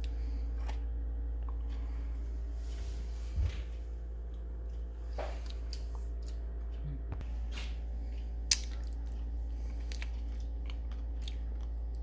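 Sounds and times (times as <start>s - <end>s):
soft squishing: 0.0s - 12.0s
steady low hum: 0.0s - 12.0s.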